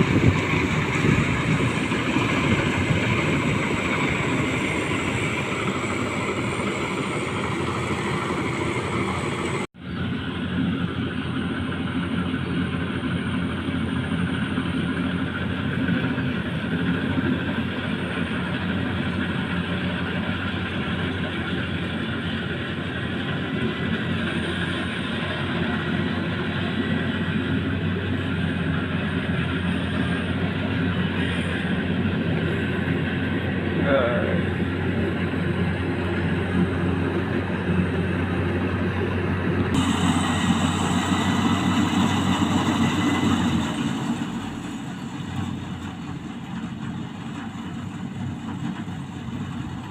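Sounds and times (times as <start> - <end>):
combine harvester running: 0.0 - 49.9.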